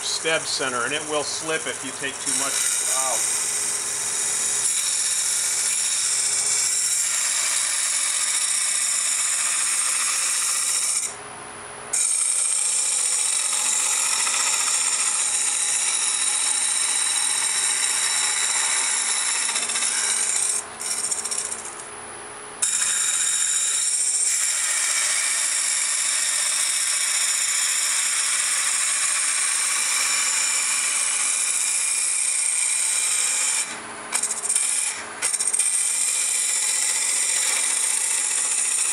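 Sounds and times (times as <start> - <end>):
lathe tool scraping wood: 0.0 - 11.2, 11.9 - 21.9, 22.6 - 38.9.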